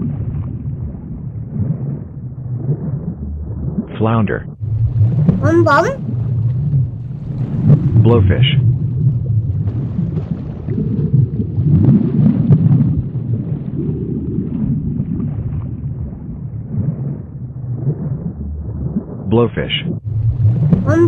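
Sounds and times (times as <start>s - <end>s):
underwater rumbling wash: 0.0s - 3.9s, 4.6s - 5.4s, 6.0s - 19.3s, 20.0s - 20.8s.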